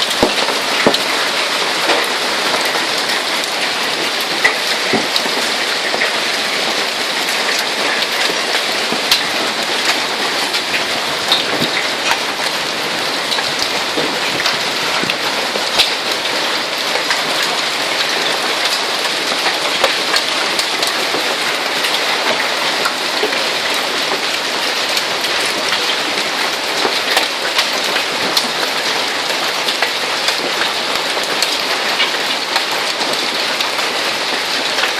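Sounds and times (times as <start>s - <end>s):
hail falling: 0.0s - 34.9s
hailstones striking clicks: 0.0s - 34.9s.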